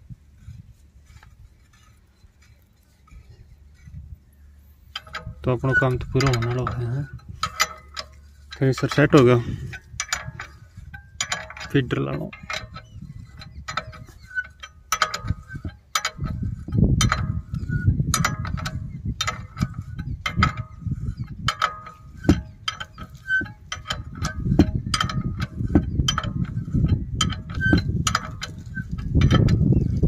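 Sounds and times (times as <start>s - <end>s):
ratchet wrench clicking on bolt: 4.8s - 30.0s.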